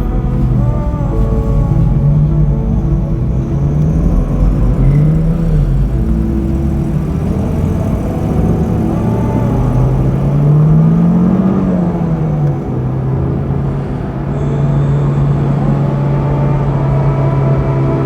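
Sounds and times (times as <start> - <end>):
car engine revving: 0.0 - 18.0
road rumble: 0.0 - 18.0.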